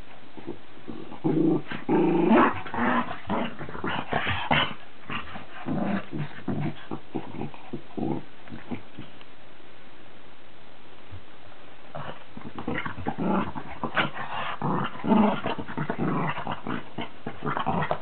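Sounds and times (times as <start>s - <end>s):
dogs growling and snarling: 0.4s - 9.1s, 11.9s - 18.0s.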